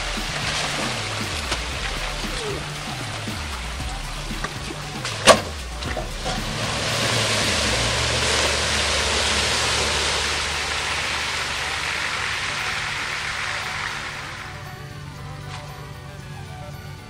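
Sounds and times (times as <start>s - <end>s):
muddy water splashing: 0.0s - 15.8s
truck engine running: 0.0s - 17.0s.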